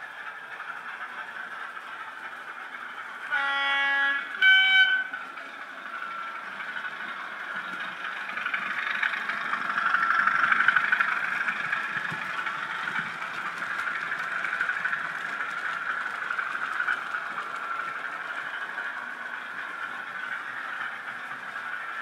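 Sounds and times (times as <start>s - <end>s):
model locomotive engine sound: 0.0s - 22.0s
wheels running on rails: 0.0s - 22.0s.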